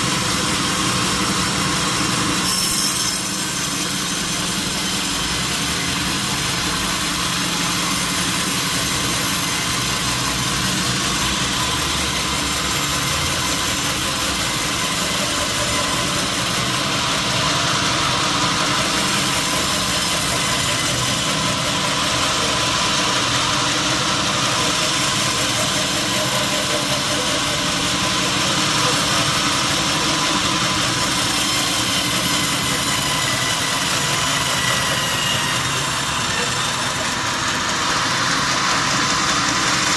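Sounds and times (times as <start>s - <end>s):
engine-driven saw droning: 0.0s - 39.9s.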